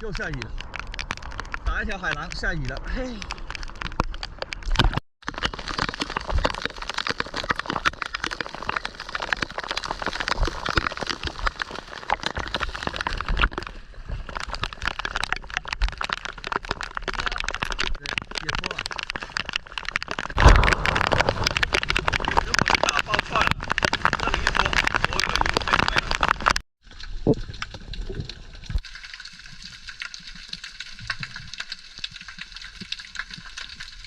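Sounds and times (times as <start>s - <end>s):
rain falling on sea: 0.0s - 34.0s.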